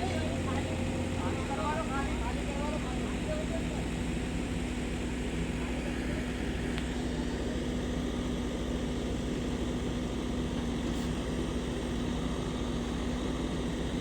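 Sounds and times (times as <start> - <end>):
heavy diesel engine rumbling: 0.0 - 14.0.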